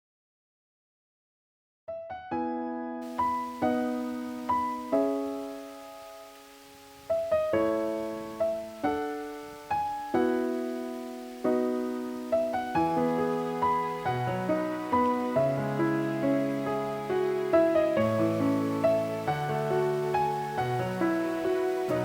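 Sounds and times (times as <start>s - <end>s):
gentle piano music: 1.9s - 22.0s.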